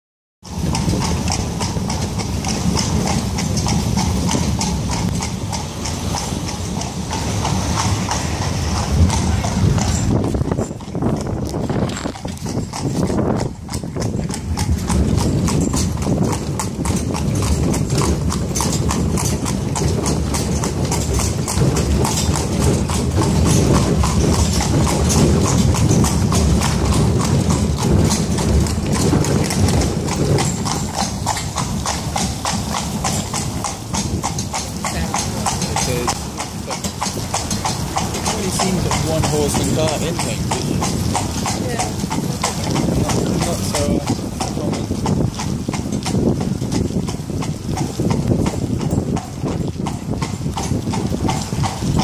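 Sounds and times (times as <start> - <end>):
carriage rolling rumble: 0.4 - 52.0
hooves clip-clopping on pavement: 0.4 - 52.0.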